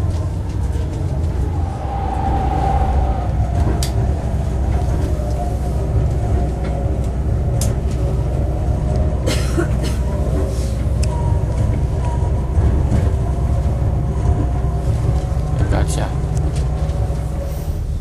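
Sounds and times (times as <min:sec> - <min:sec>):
low engine and wheel rumble: 0:00.0 - 0:18.0.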